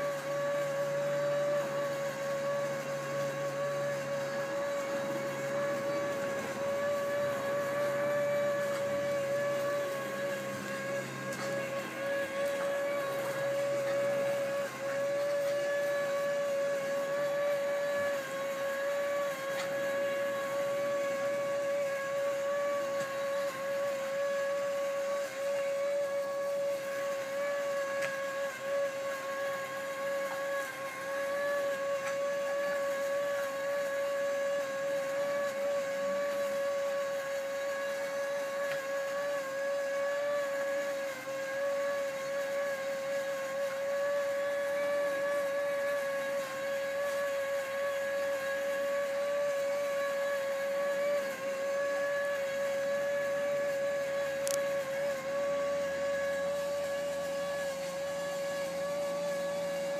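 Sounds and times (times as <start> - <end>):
small fan motor whining: 0.0 - 59.9.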